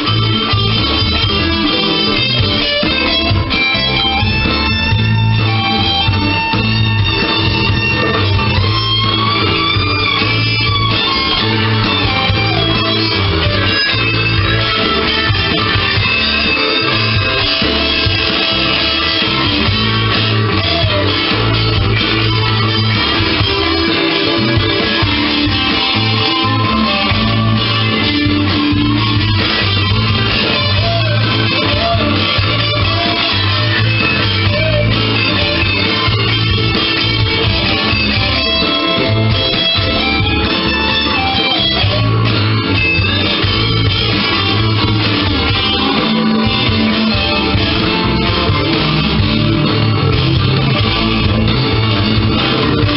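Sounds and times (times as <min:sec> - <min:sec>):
electric guitar lead lines: 0:00.0 - 0:52.9
rock backing track: 0:00.0 - 0:52.9
steady bass line: 0:00.0 - 0:52.9.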